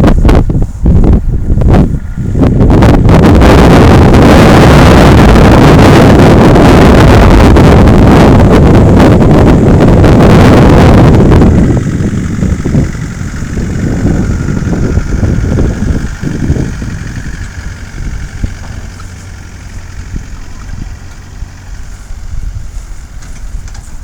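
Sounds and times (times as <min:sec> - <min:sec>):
vehicle engine idling: 0:00.0 - 0:24.0
wind buffeting microphone: 0:00.0 - 0:24.0.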